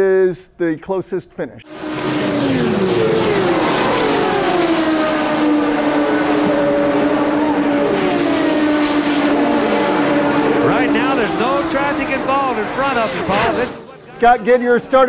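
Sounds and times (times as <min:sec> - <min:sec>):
race car engines passing: 0:01.6 - 0:15.0.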